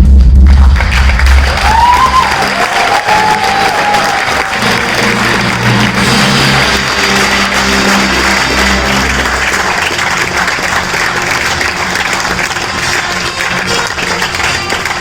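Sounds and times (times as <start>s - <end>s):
music playing: 0.0s - 15.0s
audience applauding: 0.4s - 15.0s.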